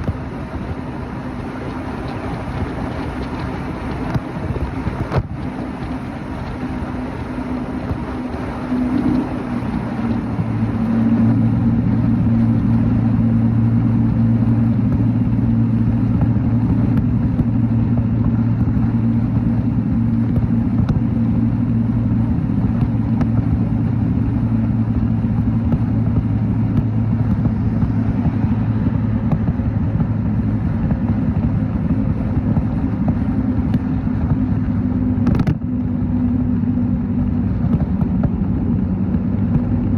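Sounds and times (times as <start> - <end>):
motorcycle engine cruising: 0.0 - 39.9
road noise hiss: 0.0 - 39.9.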